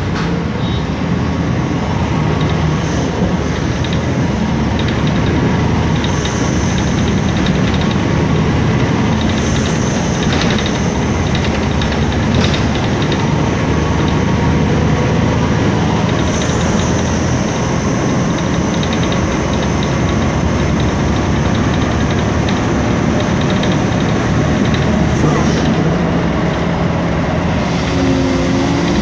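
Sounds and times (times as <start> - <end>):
bus engine and road noise: 0.0 - 29.0.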